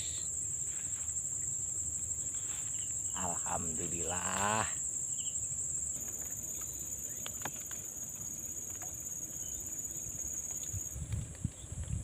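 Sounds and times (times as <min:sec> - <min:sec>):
higher insect trill: 0:00.0 - 0:11.7
insects trilling: 0:00.0 - 0:12.0.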